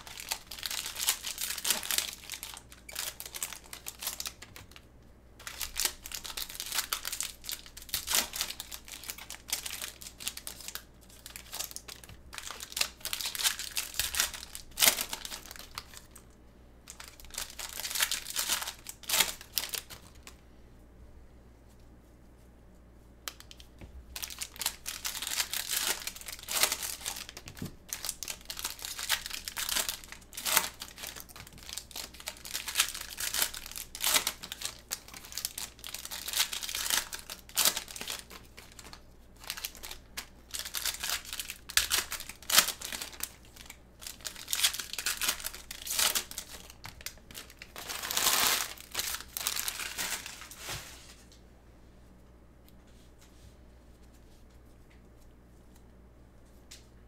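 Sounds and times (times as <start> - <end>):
foil wrappers crinkling and tearing: 0.0 - 4.8, 5.4 - 16.2, 16.9 - 20.4, 23.3 - 51.2.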